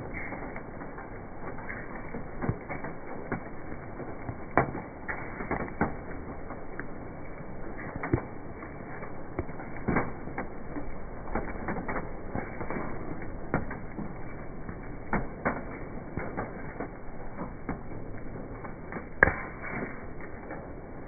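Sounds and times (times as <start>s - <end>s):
wood crackling and popping in stove: 0.0s - 21.0s.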